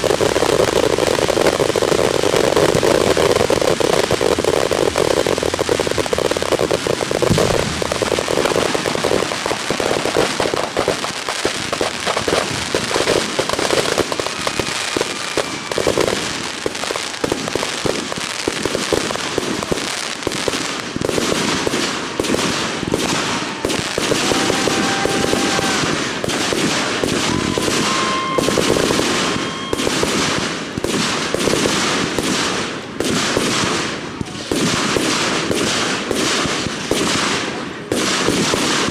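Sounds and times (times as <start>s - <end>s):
fireworks crackling and banging: 0.0s - 38.9s
fireworks whistling: 0.0s - 38.9s.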